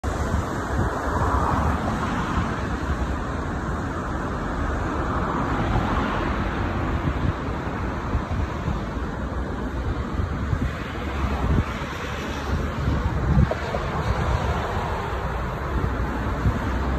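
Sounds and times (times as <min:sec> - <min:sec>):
distant city traffic rumble: 0:00.0 - 0:16.9
wind buffeting microphone: 0:00.0 - 0:16.9.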